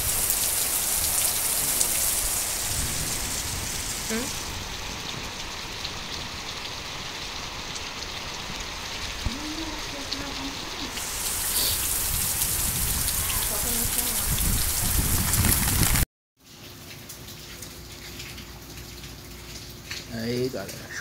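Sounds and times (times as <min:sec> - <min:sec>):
rain on trees: 0:00.0 - 0:21.0
running water: 0:00.0 - 0:21.0.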